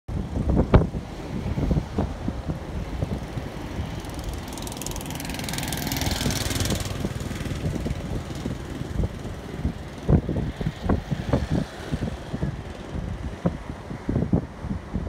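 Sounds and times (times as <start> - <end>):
road traffic: 0.1 - 15.0
wind rumbling on microphone: 0.1 - 15.0.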